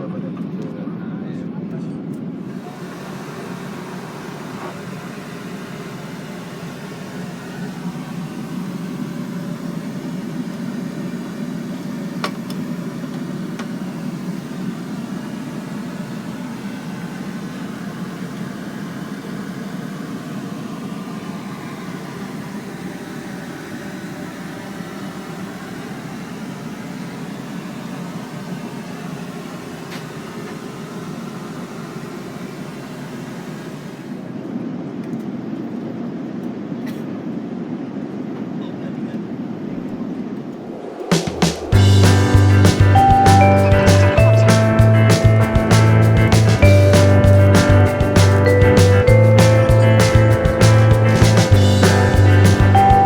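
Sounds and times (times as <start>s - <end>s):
airliner cabin rumble: 2.0s - 34.2s, 38.6s - 53.0s.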